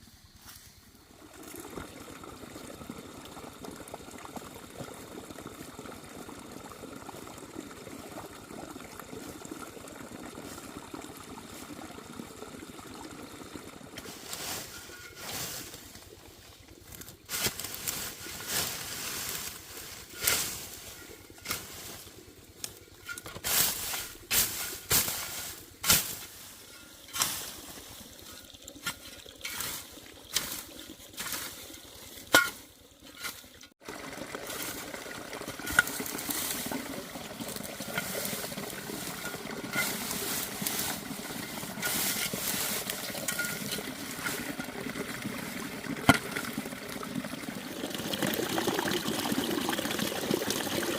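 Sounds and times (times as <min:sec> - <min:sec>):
running water: 0:00.9 - 0:50.9.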